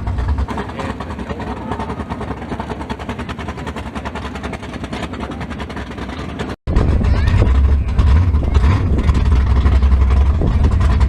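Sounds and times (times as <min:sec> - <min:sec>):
race car engine idling: 0:00.0 - 0:11.0.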